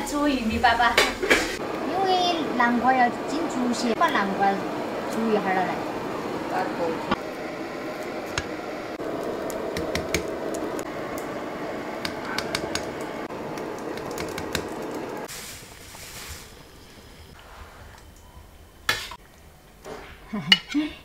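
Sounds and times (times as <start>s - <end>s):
water boiling hard: 0.0s - 17.9s.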